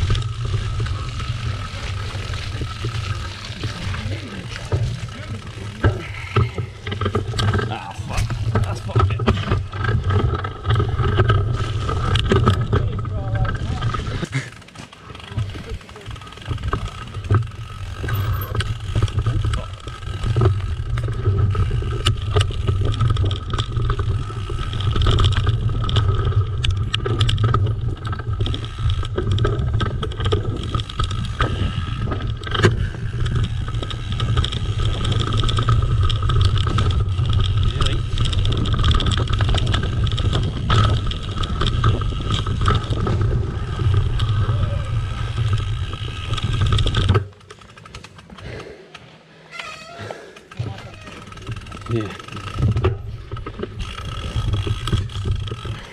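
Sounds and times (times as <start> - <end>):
bike rattling over bumps: 0.0 - 55.9
bike tyre noise: 0.0 - 55.9.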